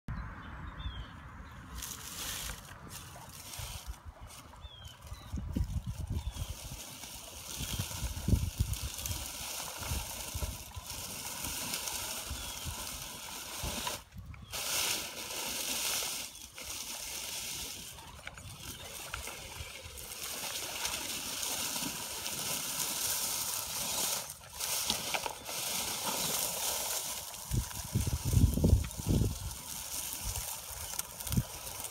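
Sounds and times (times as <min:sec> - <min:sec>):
leaves crunching under tyres: 0:00.8 - 0:31.9
electric motor and gears whirring: 0:01.7 - 0:31.9.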